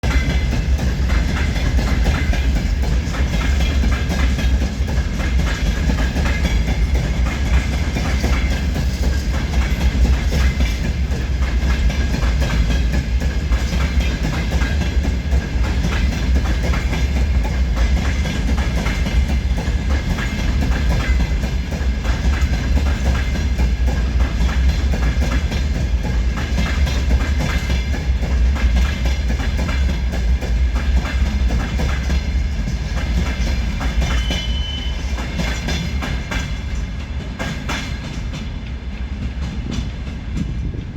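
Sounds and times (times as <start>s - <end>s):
freight train wheels clattering: 0.0s - 40.9s
heavy train rumble: 0.0s - 40.9s.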